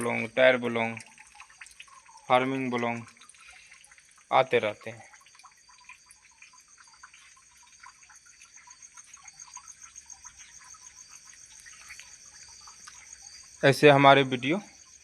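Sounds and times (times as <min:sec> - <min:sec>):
crickets chirping: 0:00.0 - 0:15.0
water dripping: 0:00.0 - 0:15.0.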